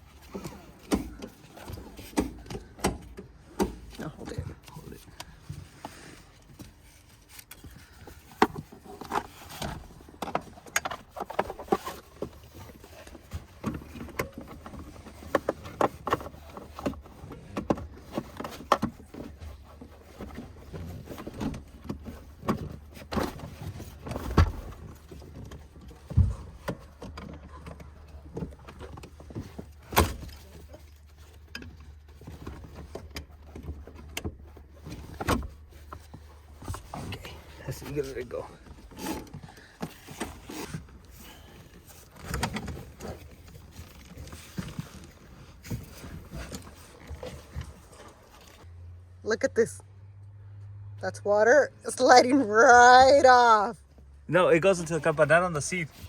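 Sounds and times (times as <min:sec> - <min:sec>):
car seat hardware rattling: 0:00.0 - 0:05.5, 0:06.4 - 0:48.6.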